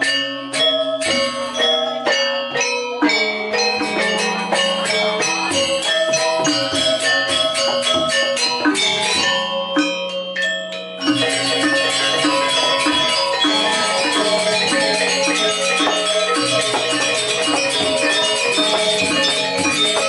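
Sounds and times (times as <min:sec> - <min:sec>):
gamelan metallophones and gongs: 0:00.0 - 0:20.0.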